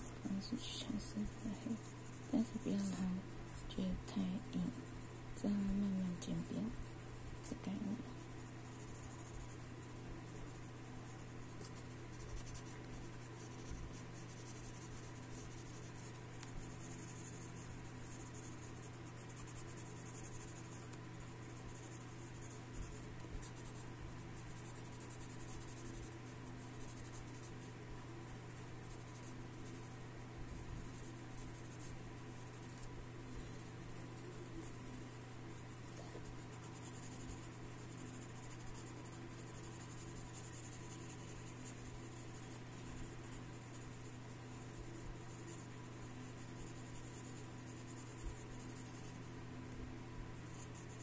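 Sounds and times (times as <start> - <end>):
pencil scratching on paper: 0.0 - 49.4, 50.4 - 51.0
steady low hum: 0.0 - 51.0.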